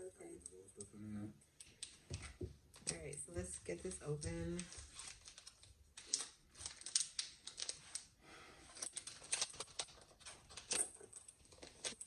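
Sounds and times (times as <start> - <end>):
plastic wrapper crinkling: 1.6 - 12.0.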